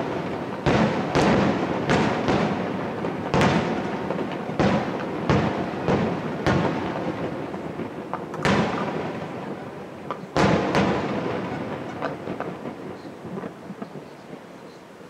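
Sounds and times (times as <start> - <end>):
firework shells bursting: 0.0 - 14.1
rolling echo: 0.0 - 14.2
faint firework pops and crackles: 0.0 - 14.8.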